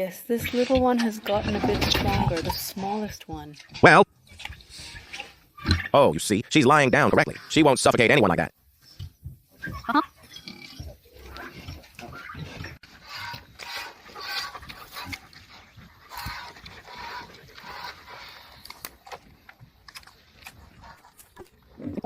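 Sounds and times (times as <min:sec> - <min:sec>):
pigs grunting and snuffling: 0:00.0 - 0:22.0.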